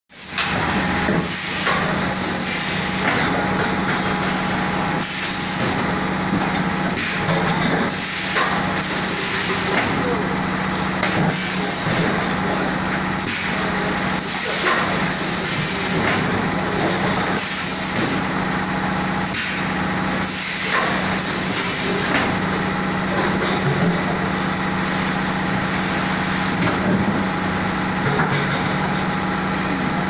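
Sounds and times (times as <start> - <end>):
washing machine motor hum: 0.1 - 30.0.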